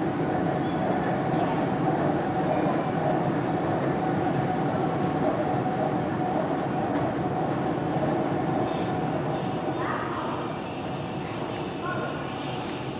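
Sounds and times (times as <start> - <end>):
metro train rumbling: 0.0 - 12.9.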